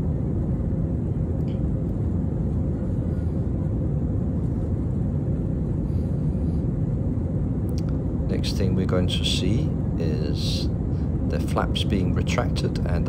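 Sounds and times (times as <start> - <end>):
faint steady hum: 0.0 - 13.0
jet airliner cabin roar: 0.0 - 13.0.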